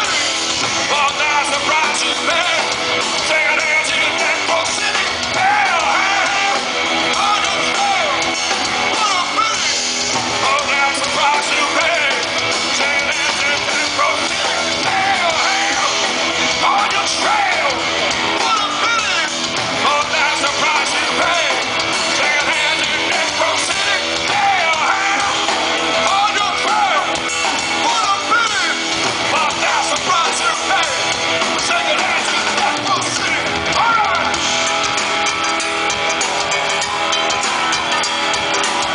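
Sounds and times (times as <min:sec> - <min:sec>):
man singing and shouting: 0:00.0 - 0:34.5
hard rock band playing: 0:00.0 - 0:38.9.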